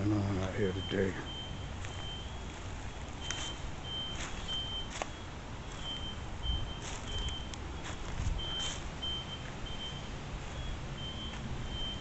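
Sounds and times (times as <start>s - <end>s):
high-pitched warning beeps: 0.0s - 12.0s.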